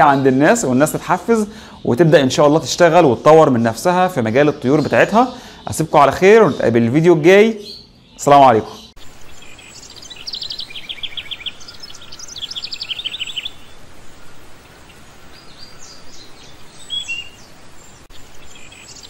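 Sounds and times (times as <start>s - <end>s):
cage birds chirping: 0.0s - 19.0s
steady background hiss: 0.0s - 19.0s.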